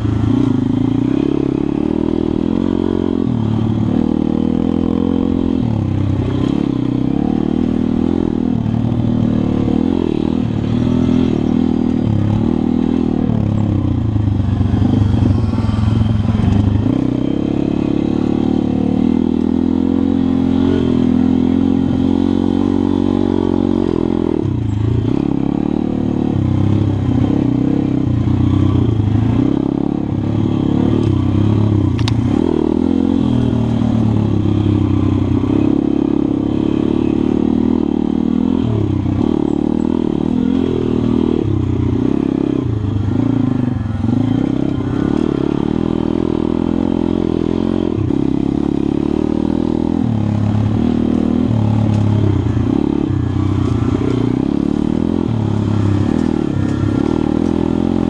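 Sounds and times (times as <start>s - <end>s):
small motorcycle engine revving: 0.0s - 58.0s.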